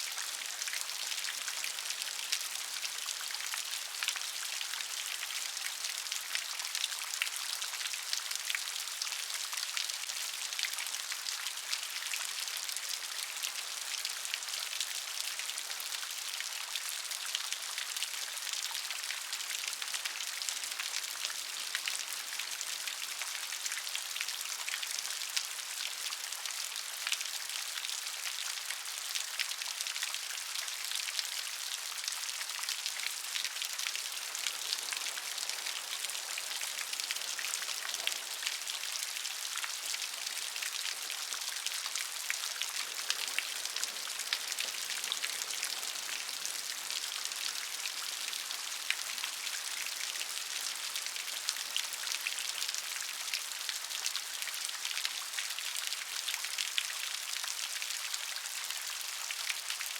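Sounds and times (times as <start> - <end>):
gentle rain patter: 0.0 - 59.9.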